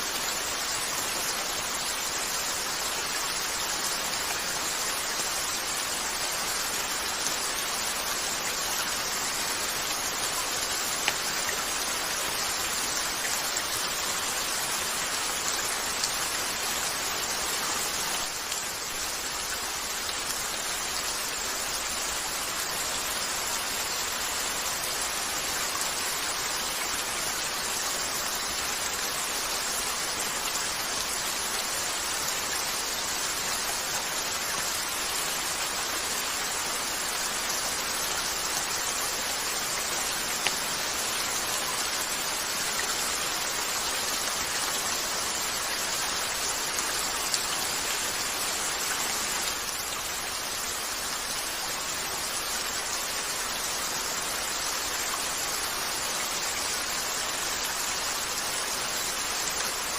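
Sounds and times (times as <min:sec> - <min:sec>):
rain falling on a window: 0:00.0 - 0:59.9.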